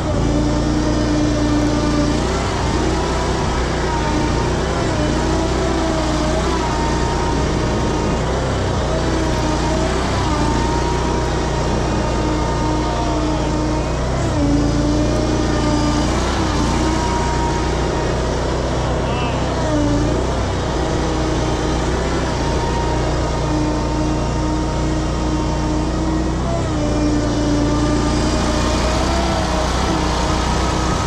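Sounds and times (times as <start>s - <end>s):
mower engine straining: 0.0s - 31.0s
tires spinning in mud: 0.0s - 31.0s.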